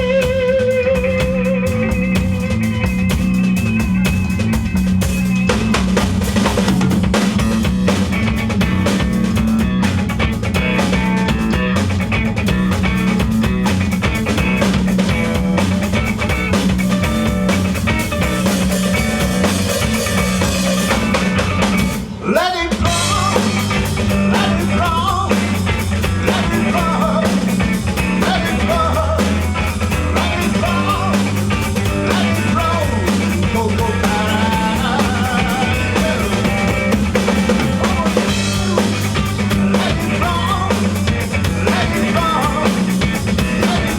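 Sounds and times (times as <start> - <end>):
drum kit pounding: 0.0 - 43.9
rock band playing: 0.0 - 43.9.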